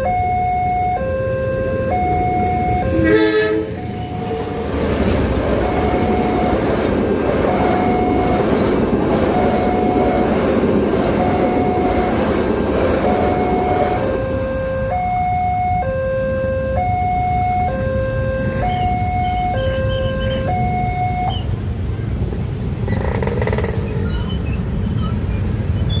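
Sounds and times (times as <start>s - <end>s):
level crossing two-tone alarm: 0.0s - 12.4s, 13.0s - 21.4s
passing train rumble: 0.0s - 26.0s.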